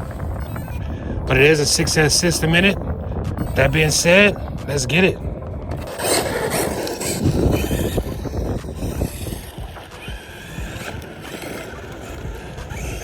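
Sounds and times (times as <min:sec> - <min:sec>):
toy car electric motor whine: 0:00.0 - 0:02.7, 0:03.3 - 0:05.0, 0:05.7 - 0:13.0
wind buffeting microphone: 0:00.0 - 0:13.0.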